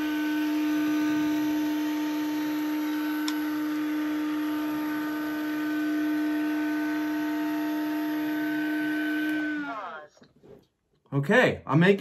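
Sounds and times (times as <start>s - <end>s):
motor humming and whining: 0.0s - 10.1s.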